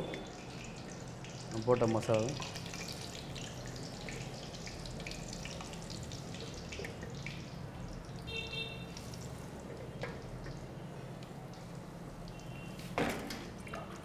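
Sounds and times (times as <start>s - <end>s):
chicken deep-frying in hot oil: 0.0s - 14.0s.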